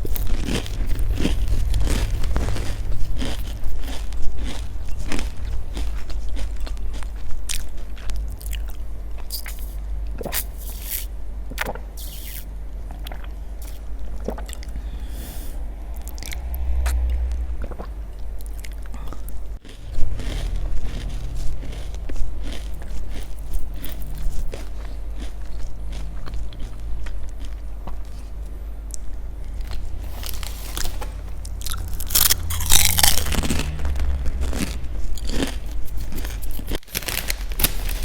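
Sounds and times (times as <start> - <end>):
crunchy biting and chewing: 0.0 - 38.0
steady low rumble: 0.0 - 38.0.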